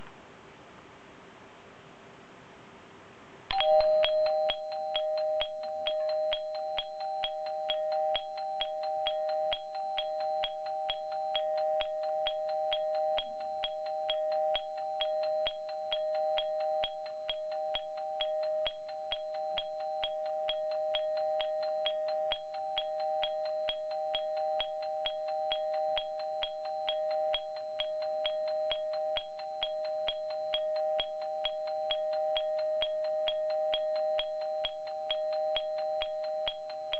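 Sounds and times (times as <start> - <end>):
two-note warning chime strikes: 3.5 - 36.9.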